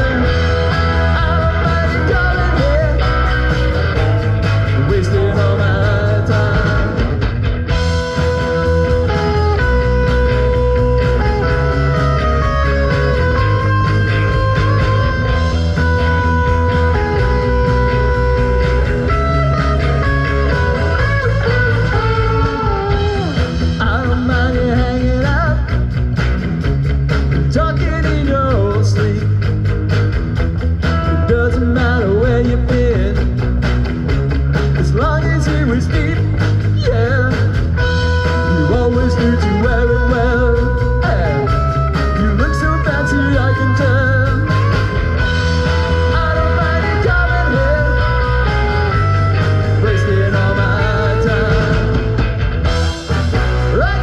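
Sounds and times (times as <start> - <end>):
electric guitar solo with bending notes: 0.0 - 26.2, 30.4 - 54.0
rock band playing: 0.0 - 54.0.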